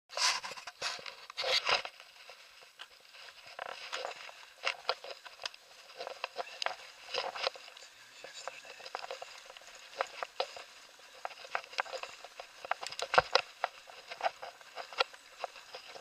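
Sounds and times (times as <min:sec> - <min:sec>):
camera handling rubbing and knocks: 0:00.1 - 0:07.8, 0:08.4 - 0:16.0
light crackles and clicks: 0:00.1 - 0:16.0.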